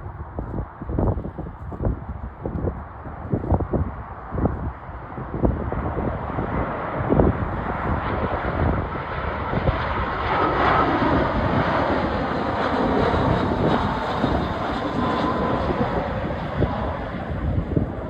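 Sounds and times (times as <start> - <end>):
jet engines of passing airliner: 0.0 - 18.0
wind buffeting microphone: 0.0 - 18.0.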